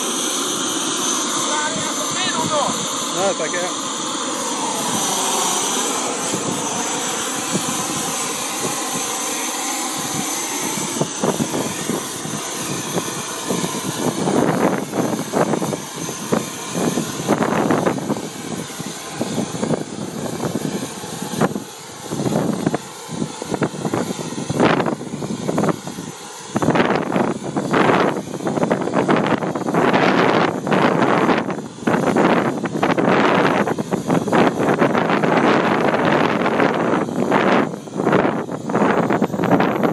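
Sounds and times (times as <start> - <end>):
turbine engine whining: 0.0 - 39.9
wind buffeting microphone: 0.0 - 39.9.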